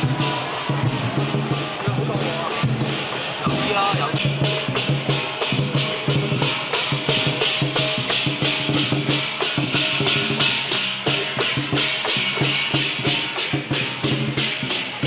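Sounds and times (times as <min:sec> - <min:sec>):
cymbals clashing: 0:00.0 - 0:15.0
drum: 0:00.0 - 0:15.0.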